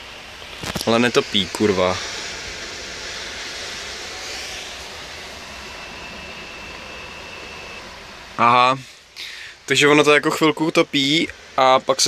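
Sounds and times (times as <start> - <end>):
faint high whine: 0.0 - 12.0
steady rushing noise: 0.0 - 12.0.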